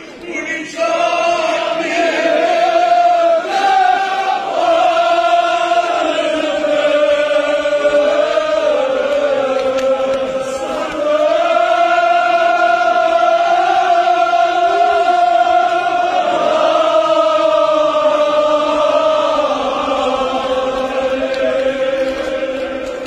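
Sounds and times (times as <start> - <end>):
men chanting in unison: 0.2 - 23.0.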